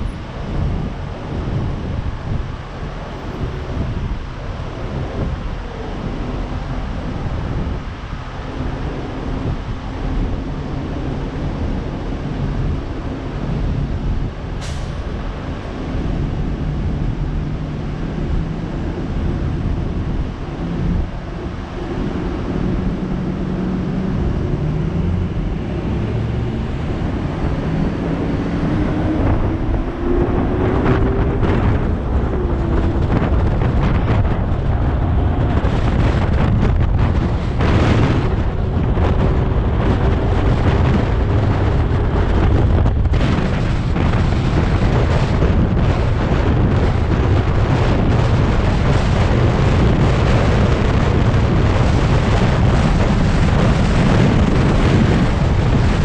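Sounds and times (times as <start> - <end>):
road traffic passing: 0.0 - 56.0
vehicle accelerating: 0.0 - 56.0.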